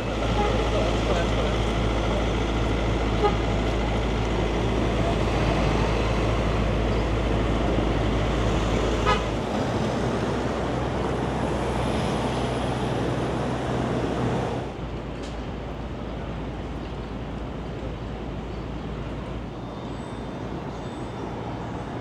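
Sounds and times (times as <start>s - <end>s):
cars on road: 0.0s - 22.0s
low traffic rumble: 0.0s - 22.0s.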